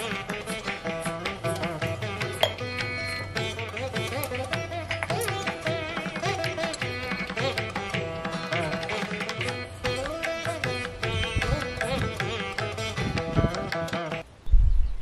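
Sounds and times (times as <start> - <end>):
hand drum percussion: 0.0 - 14.3
plucked string melody: 0.0 - 14.3.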